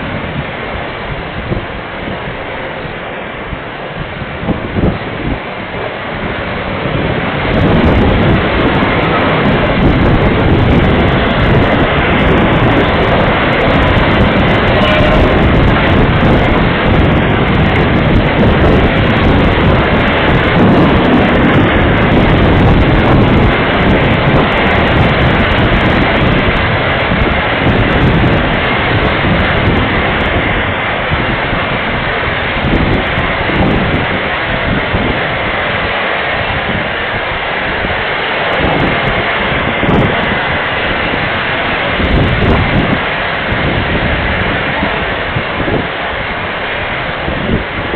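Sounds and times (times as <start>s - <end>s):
storm wind gusting: 0.0s - 47.9s
wind buffeting on microphone: 0.0s - 47.9s.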